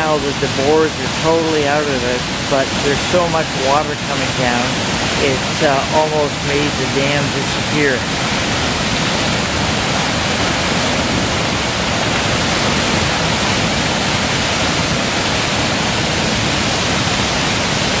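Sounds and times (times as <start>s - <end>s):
water rushing over dam: 0.0s - 18.0s.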